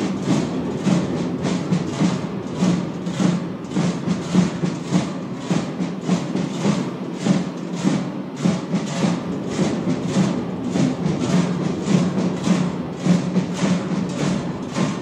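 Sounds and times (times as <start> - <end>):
large cowbells clanging: 0.0 - 15.0.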